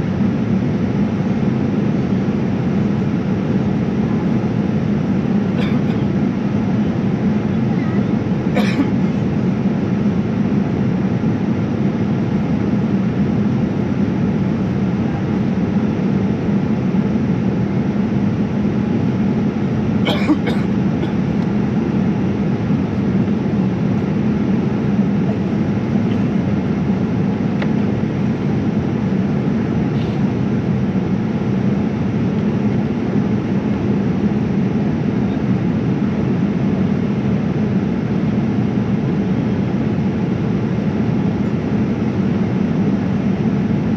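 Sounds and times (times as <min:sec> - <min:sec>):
airliner cabin engine rush: 0:00.0 - 0:43.9.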